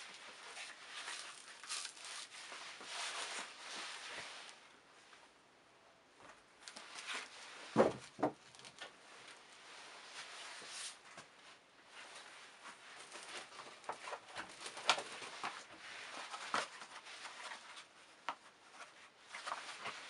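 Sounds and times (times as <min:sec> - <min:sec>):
soft rustling: 0:00.0 - 0:05.4, 0:06.1 - 0:20.0.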